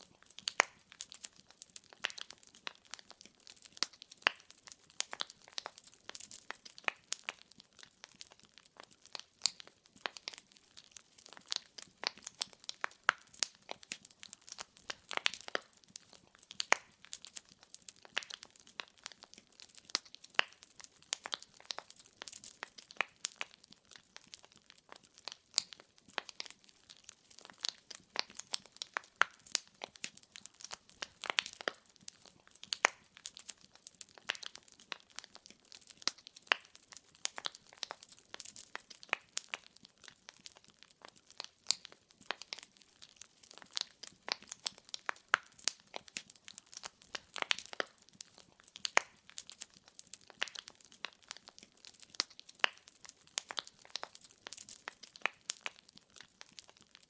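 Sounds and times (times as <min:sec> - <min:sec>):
logs crackling and popping in fireplace: 0:00.0 - 0:57.0.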